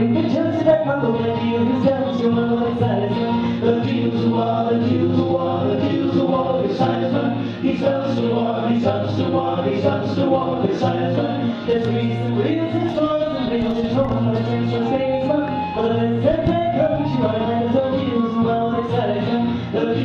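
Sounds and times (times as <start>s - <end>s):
voices singing held notes: 0.0s - 20.0s.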